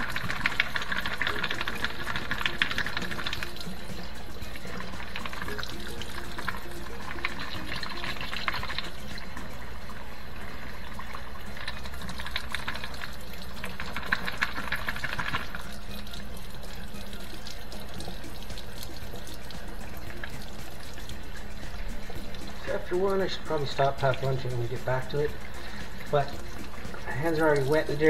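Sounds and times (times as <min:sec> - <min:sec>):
tap water running and splashing: 0:00.0 - 0:28.0.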